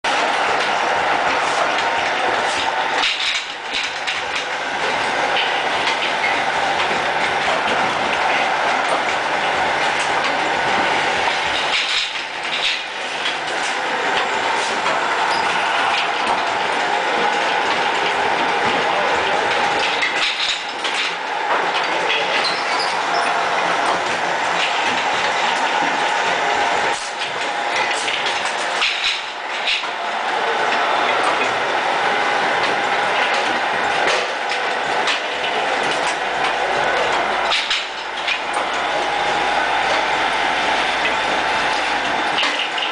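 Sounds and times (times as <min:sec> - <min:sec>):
conveyor clattering: 0:00.0 - 0:42.9.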